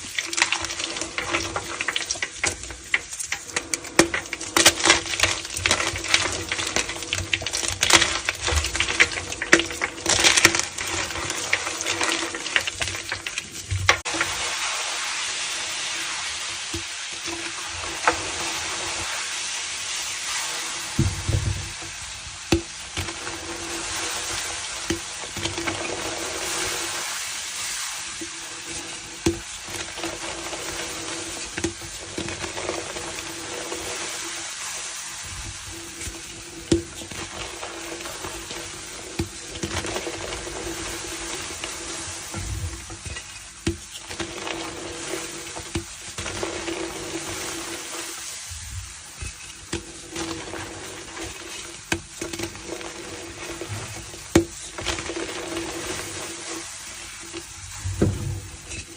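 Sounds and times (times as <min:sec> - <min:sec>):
foam fizzing crackle: 0:00.0 - 0:58.9.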